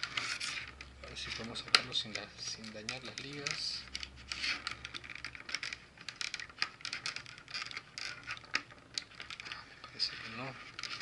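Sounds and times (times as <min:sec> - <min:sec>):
plastic tray crackling: 0:00.0 - 0:11.0.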